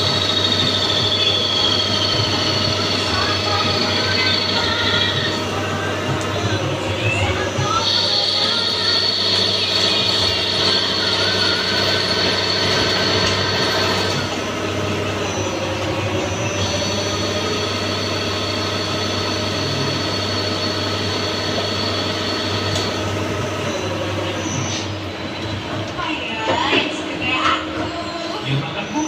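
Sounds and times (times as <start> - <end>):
lathe whining: 0.0 - 29.0
low machine hum: 0.0 - 29.0.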